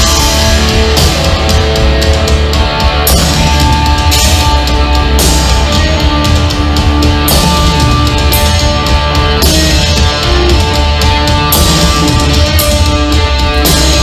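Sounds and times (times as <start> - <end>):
heavy rock band playing: 0.0 - 14.0.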